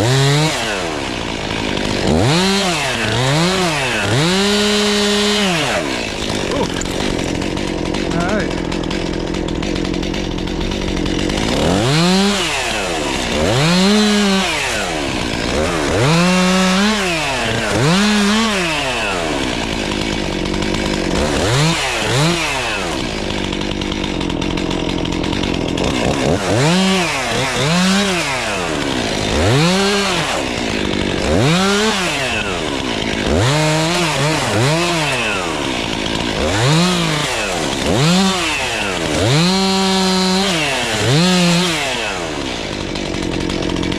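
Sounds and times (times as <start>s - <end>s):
chainsaw revving and idling: 0.0s - 43.9s.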